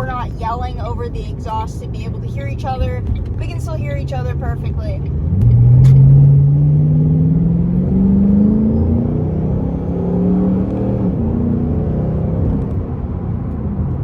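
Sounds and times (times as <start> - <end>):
car exhaust accelerating: 0.0 - 14.0.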